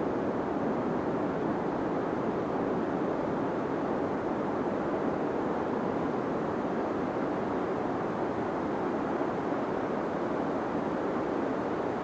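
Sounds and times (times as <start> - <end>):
deep white noise: 0.0 - 12.0.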